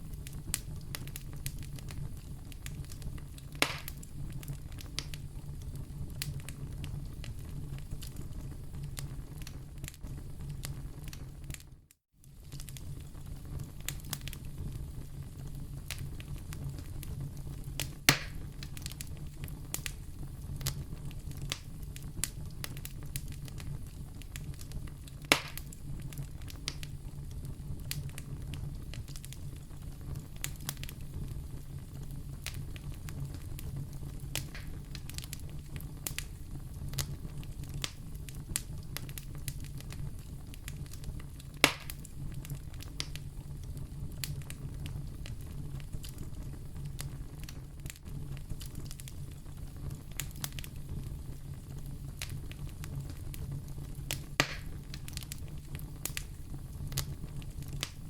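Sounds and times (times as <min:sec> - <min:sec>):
wood fire crackling in fireplace: 0:00.0 - 0:58.0.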